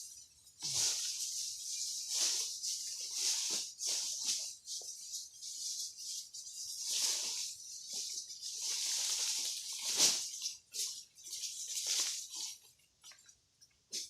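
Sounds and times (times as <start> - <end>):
dry rustling and crunching: 0.6 - 13.2.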